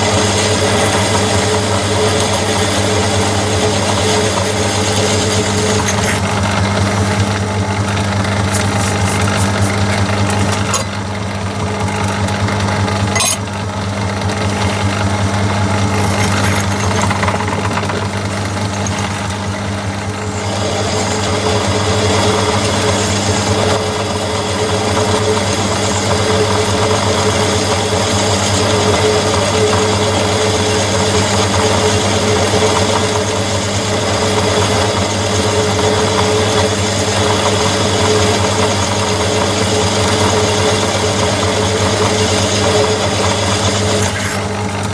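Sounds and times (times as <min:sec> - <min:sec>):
drill cutting steel: 0:00.0 - 0:44.9
lathe motor hum: 0:00.0 - 0:44.9.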